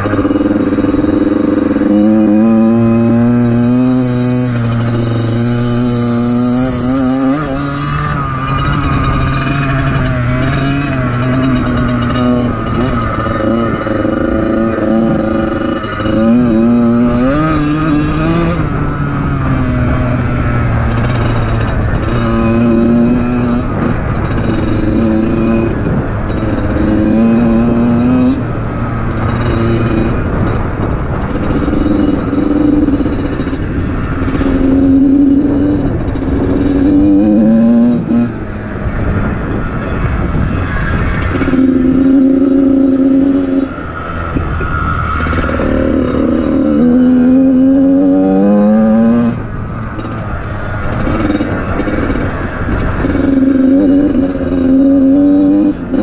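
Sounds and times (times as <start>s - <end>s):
motocross engine revving: 0.0s - 56.0s.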